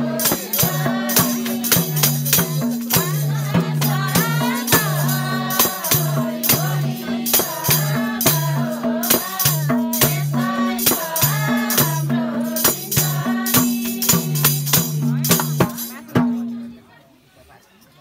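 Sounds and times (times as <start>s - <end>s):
sharp percussion strokes: 0.0s - 16.8s.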